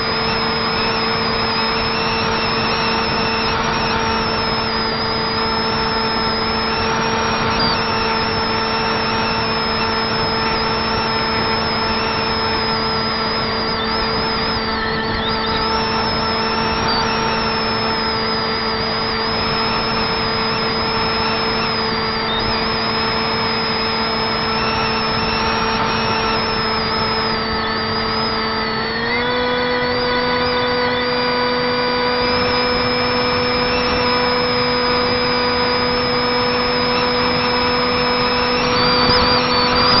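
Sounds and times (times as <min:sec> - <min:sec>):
electric motor and propeller whine: 0:00.0 - 0:40.0.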